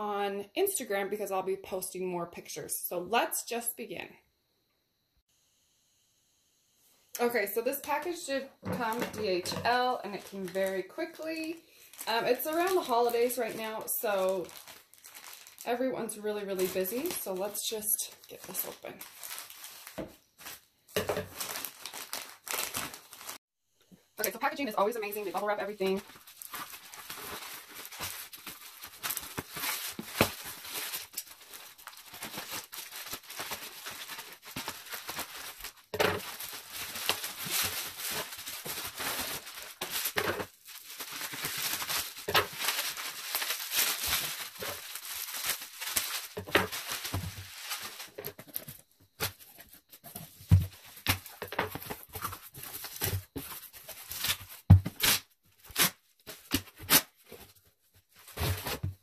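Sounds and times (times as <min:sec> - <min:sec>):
plastic wrap crinkling: 0:07.8 - 0:23.4, 0:24.2 - 0:58.9.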